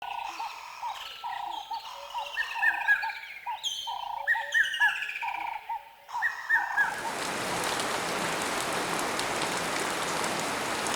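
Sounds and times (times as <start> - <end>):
birds singing and calling: 0.0 - 10.4.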